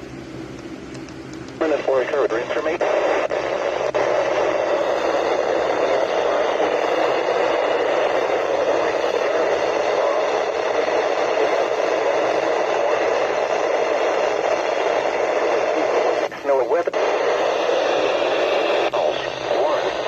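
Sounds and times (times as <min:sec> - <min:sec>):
radio static hiss: 0:01.4 - 0:20.0.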